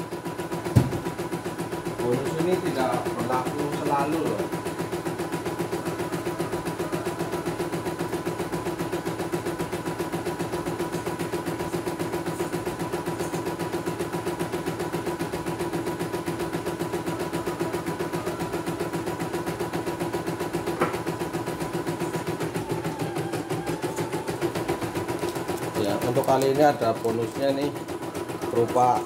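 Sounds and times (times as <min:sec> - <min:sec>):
embroidery machine needle stitching: 0:00.0 - 0:29.0
steady motor hum: 0:00.0 - 0:29.0.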